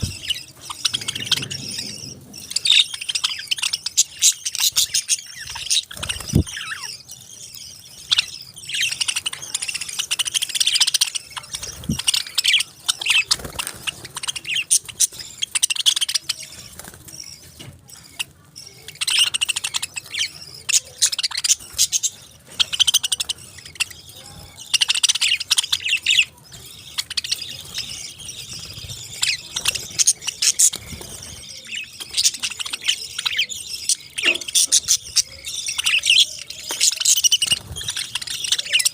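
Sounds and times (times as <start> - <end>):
parakeets chirping and chattering: 0.0 - 38.9.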